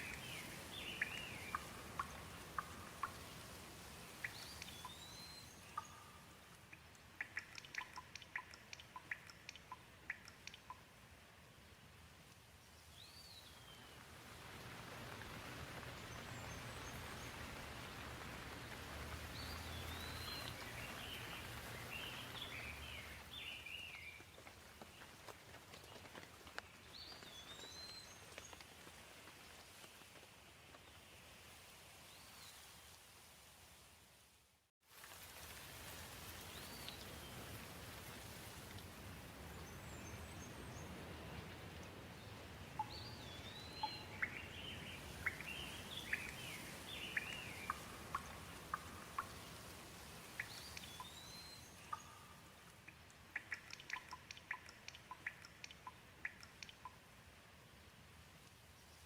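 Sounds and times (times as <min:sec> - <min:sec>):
raindrops pattering: 0:00.0 - 0:31.6, 0:34.8 - 0:58.7.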